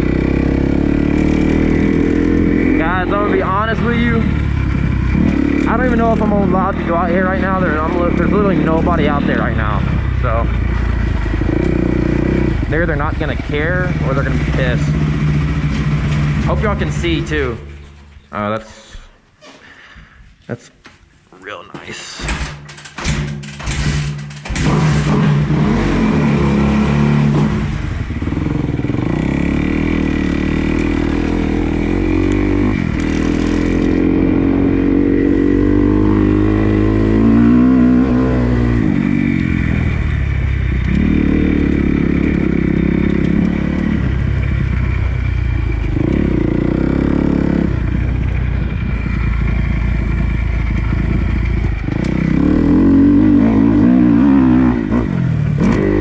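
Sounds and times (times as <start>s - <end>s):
dirt bike engine revving: 0.0s - 18.0s, 23.6s - 56.0s.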